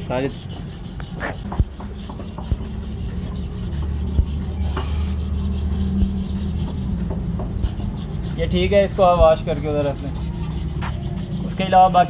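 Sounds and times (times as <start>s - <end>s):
sandpaper scratching on metal: 0.0s - 12.0s
low hum: 0.5s - 11.6s.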